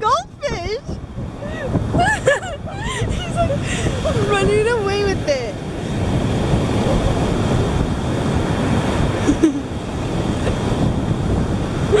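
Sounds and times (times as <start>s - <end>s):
surf washing in: 0.0s - 12.0s
wind buffeting microphone: 0.0s - 12.0s.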